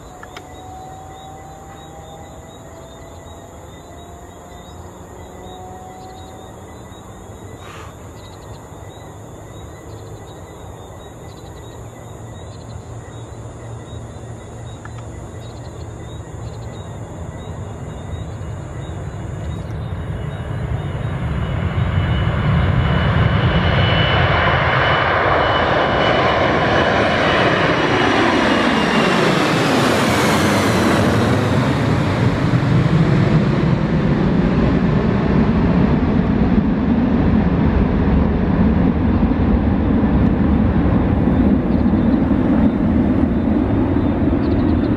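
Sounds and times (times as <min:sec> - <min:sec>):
jet engines roaring at takeoff: 0:00.0 - 0:44.9.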